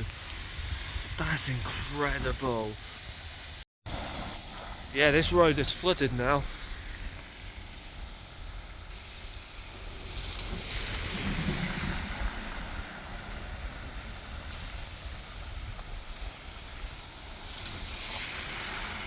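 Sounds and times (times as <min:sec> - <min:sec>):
floodwater rushing and splashing: 0:00.0 - 0:19.0
wind rumble on microphone: 0:00.0 - 0:19.0.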